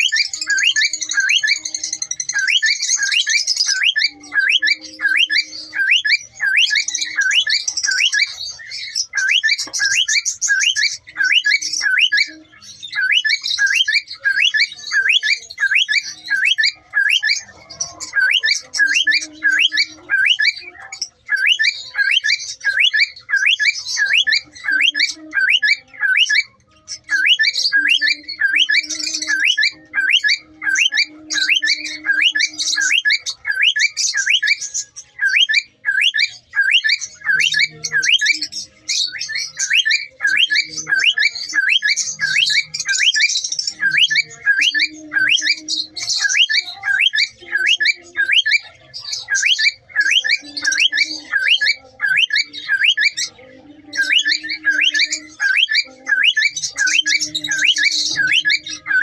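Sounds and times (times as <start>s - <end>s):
cockatiel squawking: 0.0s - 59.0s.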